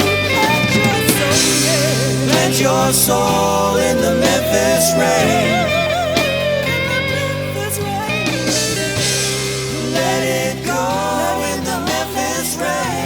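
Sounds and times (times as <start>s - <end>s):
guitar bending melodic lines: 0.0s - 13.0s
held bass notes: 0.0s - 13.0s.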